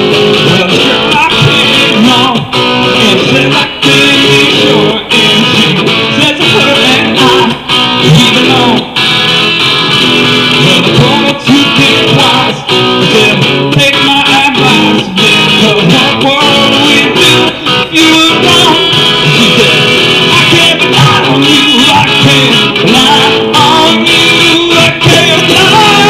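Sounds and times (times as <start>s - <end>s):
guitar strumming: 0.0s - 26.0s.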